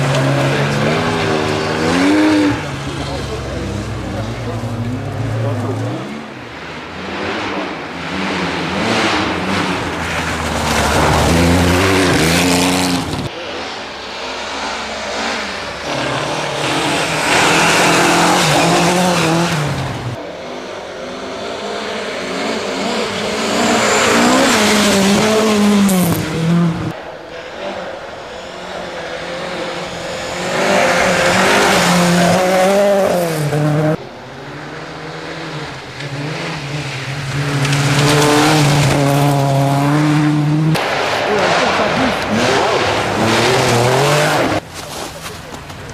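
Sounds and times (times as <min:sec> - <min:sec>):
rally car engines revving past: 0:00.0 - 0:45.8.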